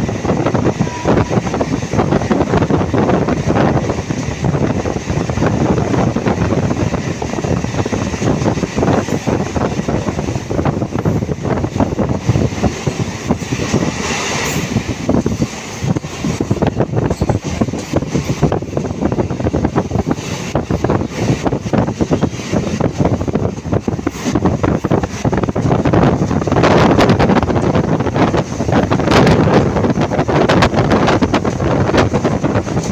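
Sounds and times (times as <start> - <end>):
train rumbling and rattling: 0.0 - 32.9
wind buffeting microphone: 0.0 - 32.9.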